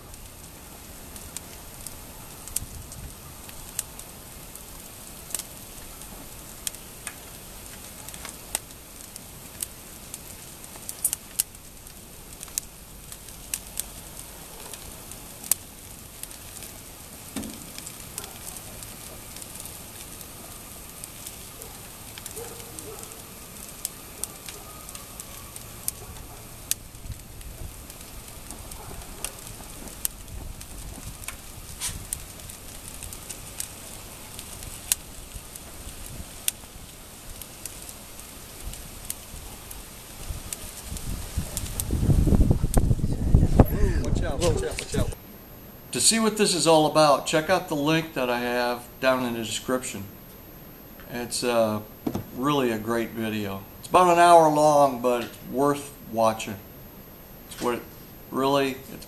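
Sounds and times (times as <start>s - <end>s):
fire hissing: 0.0s - 59.0s
paper fire crackling and popping: 0.0s - 59.0s.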